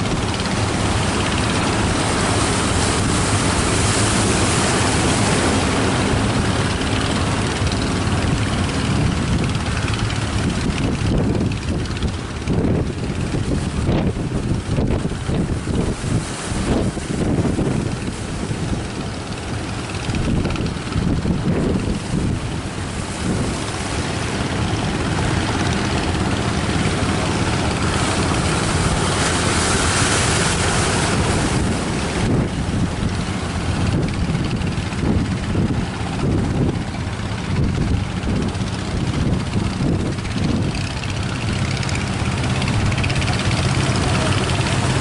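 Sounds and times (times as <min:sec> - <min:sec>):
engine running: 0:00.0 - 0:45.0
wind buffeting microphone: 0:00.0 - 0:45.0.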